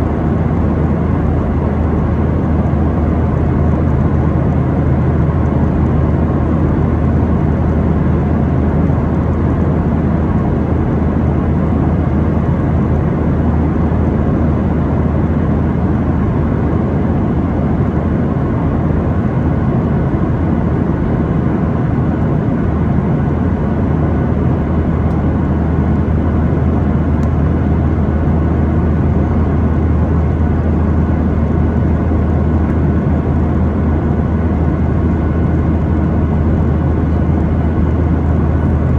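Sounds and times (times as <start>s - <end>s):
engine low drone: 0.0s - 38.9s.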